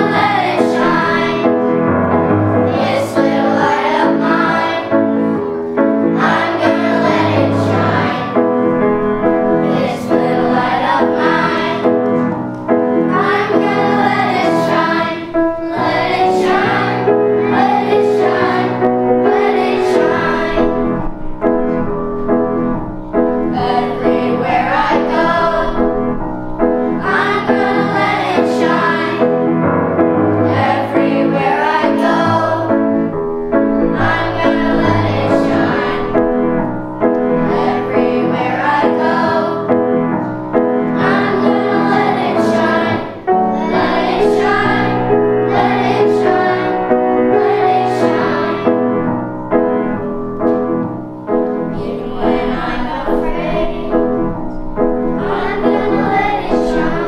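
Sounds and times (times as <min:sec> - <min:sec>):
children's choir singing: 0:00.0 - 0:57.0
piano accompaniment: 0:00.0 - 0:57.0.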